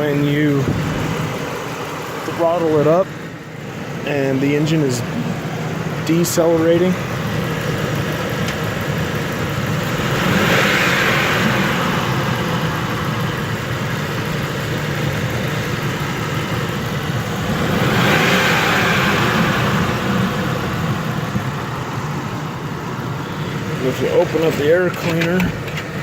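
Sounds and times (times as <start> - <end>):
engine revving: 3.9 - 26.0.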